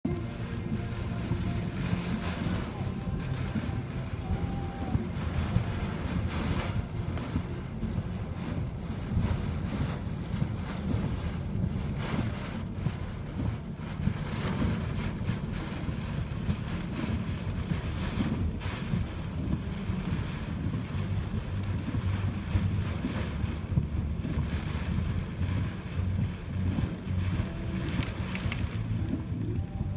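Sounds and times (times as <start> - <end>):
waves surging onto shore: 0.1 - 29.9
wind buffeting microphone: 0.1 - 29.9.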